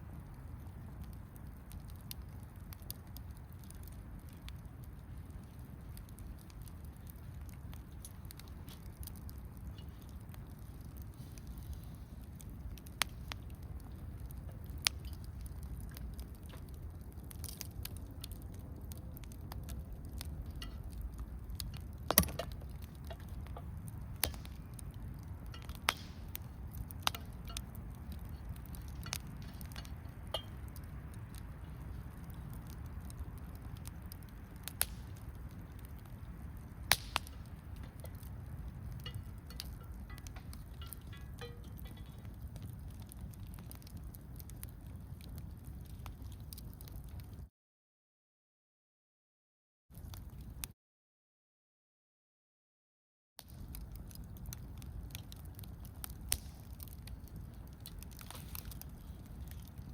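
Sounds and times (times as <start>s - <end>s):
burning wood popping and crackling: 0.0s - 47.5s, 50.0s - 50.7s, 53.4s - 59.9s
rumble of flames: 0.0s - 47.5s, 50.0s - 50.7s, 53.4s - 59.9s.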